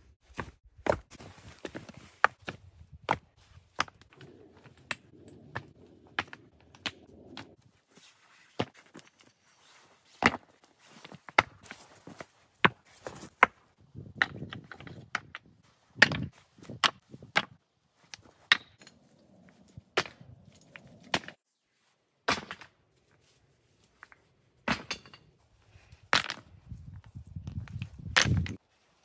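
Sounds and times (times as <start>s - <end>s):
low crunching and rustling: 0.1s - 22.1s, 25.4s - 29.0s.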